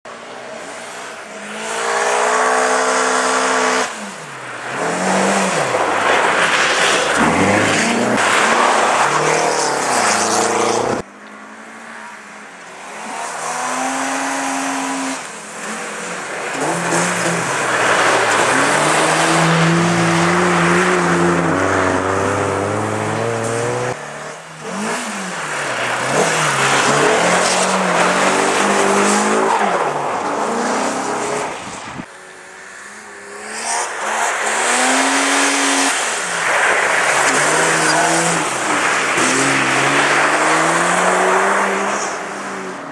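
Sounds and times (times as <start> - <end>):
rally car engines revving: 0.1 - 42.9.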